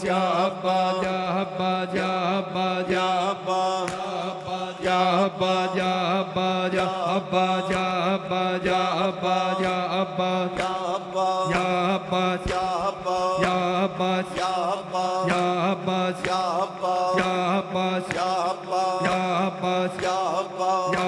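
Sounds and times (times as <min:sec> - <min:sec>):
voices chanting mourning refrain: 0:00.0 - 0:21.0.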